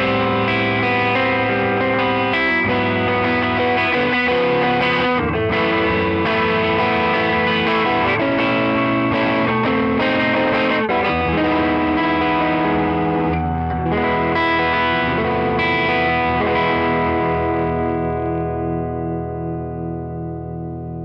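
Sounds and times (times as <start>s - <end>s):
overdriven electric guitar chords: 0.0s - 21.0s.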